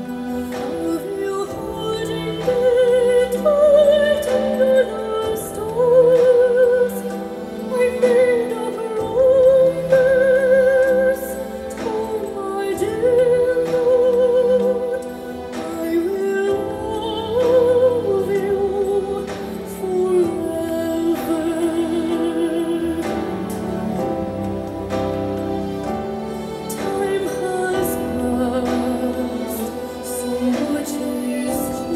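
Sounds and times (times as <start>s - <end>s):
woman singing with vibrato: 0.0s - 24.8s, 26.4s - 31.9s
instrumental accompaniment: 0.0s - 31.9s.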